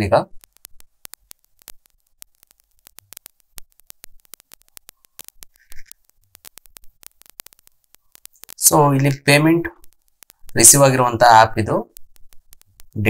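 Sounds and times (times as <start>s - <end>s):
crackling clicks: 0.0s - 13.0s.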